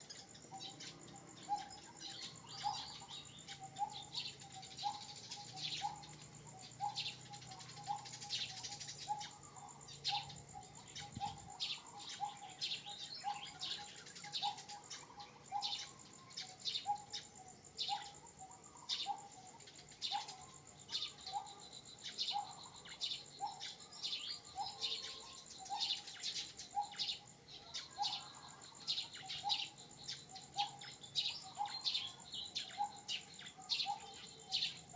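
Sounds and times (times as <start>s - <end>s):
birds chirping: 0.0s - 34.9s
high insect whine: 0.0s - 34.9s.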